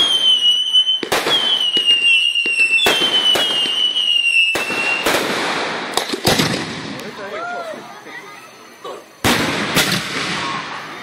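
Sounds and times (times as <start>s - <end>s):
fireworks bangs: 0.0s - 7.4s, 8.2s - 11.0s
whistling fireworks: 0.0s - 11.0s.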